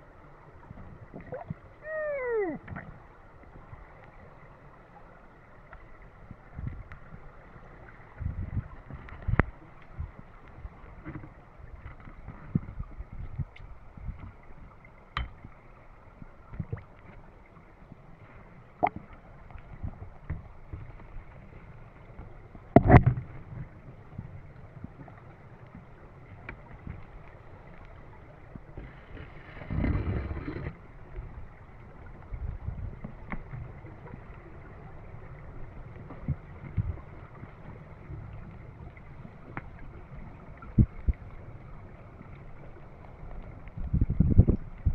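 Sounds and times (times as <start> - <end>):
muffled underwater ambience: 0.0 - 44.9.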